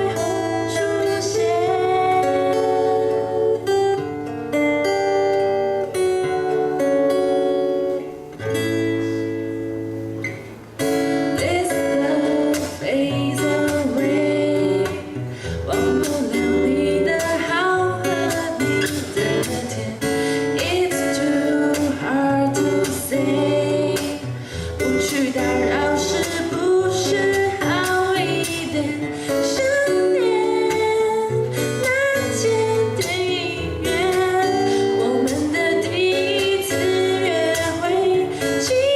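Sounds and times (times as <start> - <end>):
woman singing: 0.0 - 4.8, 5.6 - 8.0, 11.0 - 38.9
guitars playing: 0.0 - 38.9.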